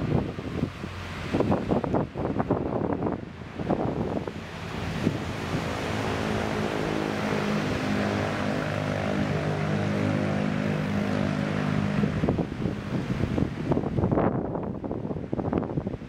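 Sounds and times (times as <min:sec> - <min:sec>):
steady motor drone: 0:00.0 - 0:15.9
wind hiss: 0:00.0 - 0:16.0.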